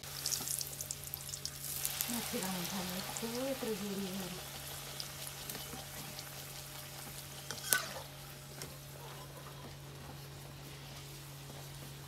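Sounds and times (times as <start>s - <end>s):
bread sizzling in hot oil: 0.0s - 12.0s.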